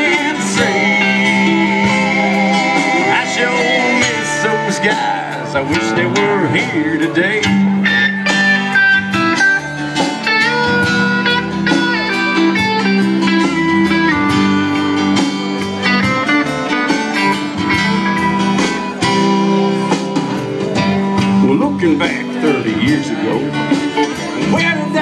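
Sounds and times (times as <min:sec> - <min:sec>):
drums: 0:00.0 - 0:25.0
lead guitar melody: 0:00.0 - 0:25.0
strummed acoustic guitars: 0:00.0 - 0:25.0.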